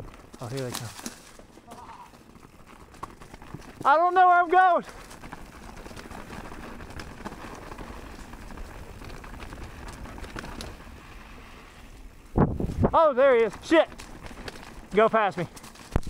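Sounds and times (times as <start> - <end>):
bike tyres rushing on dirt: 0.0 - 16.0
small ticks and rattles: 0.0 - 16.0.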